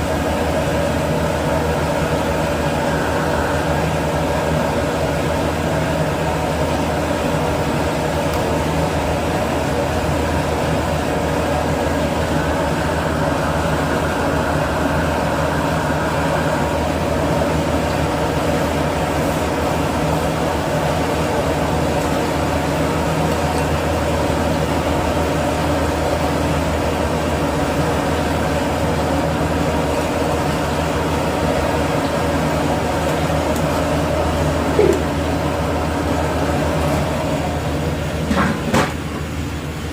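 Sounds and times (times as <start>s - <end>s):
kitchen machinery drone: 0.0s - 39.9s.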